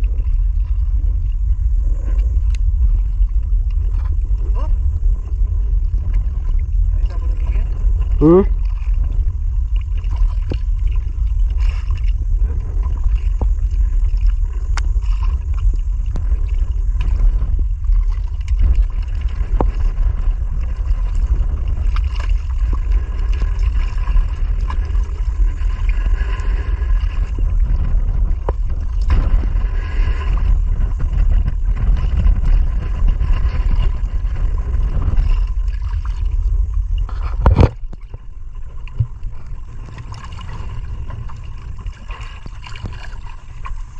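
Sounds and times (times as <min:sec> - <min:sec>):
water lapping against boat hull: 0:00.0 - 0:43.9
wind buffeting microphone: 0:00.0 - 0:43.9.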